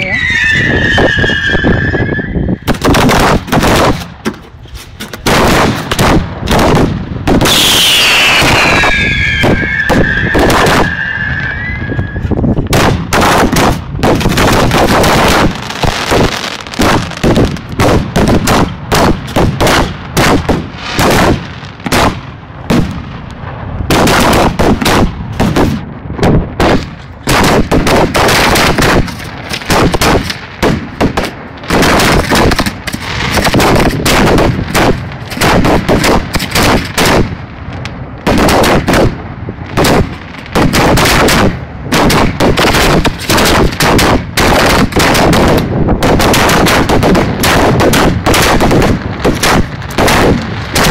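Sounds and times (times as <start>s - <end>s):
fireworks banging: 0.0s - 50.9s.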